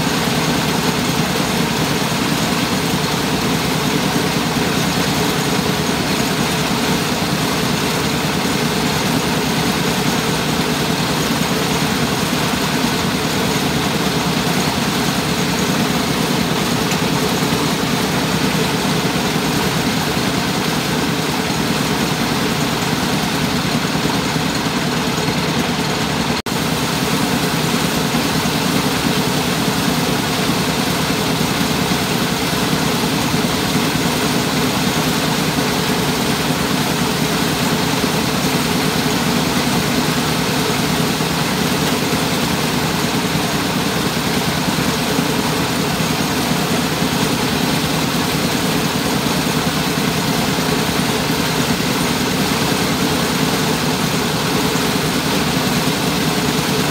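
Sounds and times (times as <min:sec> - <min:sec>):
rice-milling machine running: 0:00.0 - 0:56.9.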